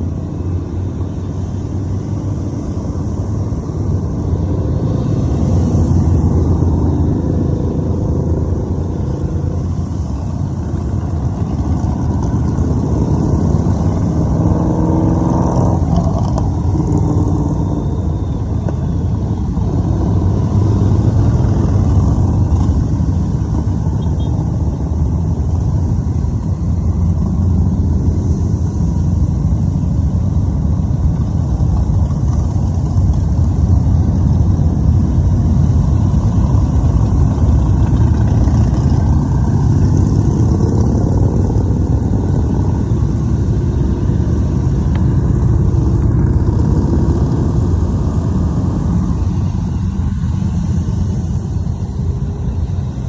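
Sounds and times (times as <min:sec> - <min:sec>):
motorcycles rumbling past: 0:00.0 - 0:29.5, 0:35.7 - 0:53.0
motorcycle accelerating: 0:00.0 - 0:53.0.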